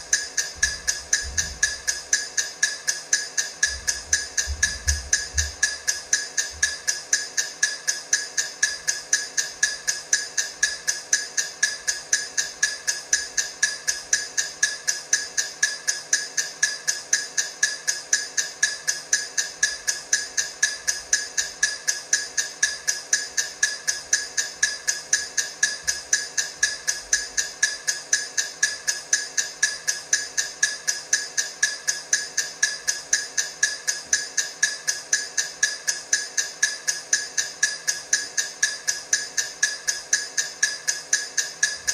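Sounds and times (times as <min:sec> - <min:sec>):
timer ticking: 0:00.0 - 0:41.9.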